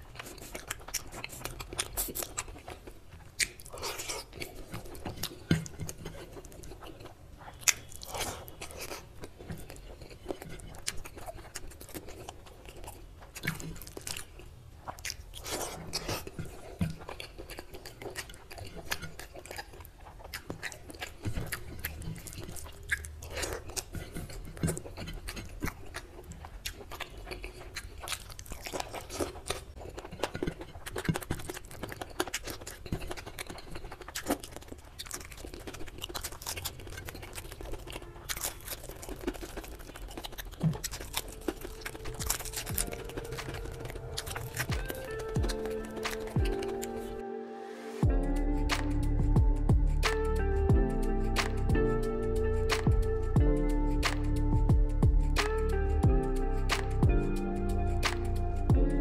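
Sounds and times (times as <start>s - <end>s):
chewing and crunching food: 0.0s - 47.2s, 48.0s - 59.0s.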